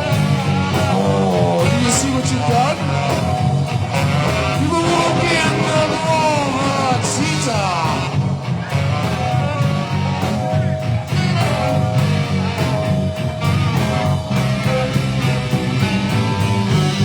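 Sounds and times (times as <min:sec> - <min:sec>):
bass: 0:00.0 - 0:17.0
electric guitar: 0:00.0 - 0:17.0
steady drum beat: 0:00.0 - 0:17.0.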